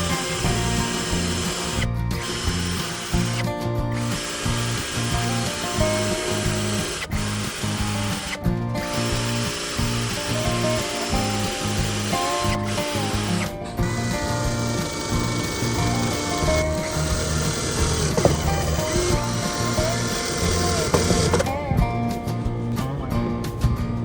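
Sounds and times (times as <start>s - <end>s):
power tool running: 0.0s - 21.7s
background music: 0.0s - 24.0s.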